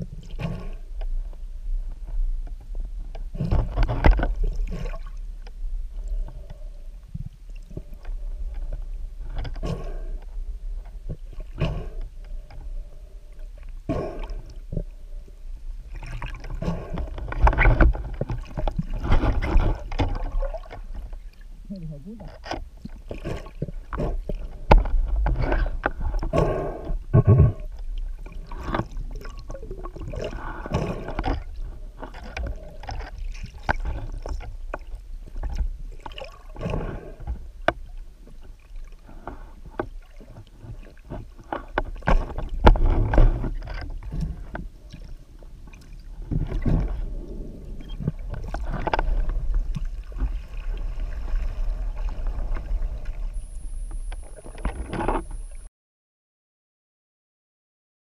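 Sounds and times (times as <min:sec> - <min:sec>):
low underwater rumble: 0:00.0 - 0:55.7
underwater gurgling and sloshing: 0:00.0 - 0:55.7.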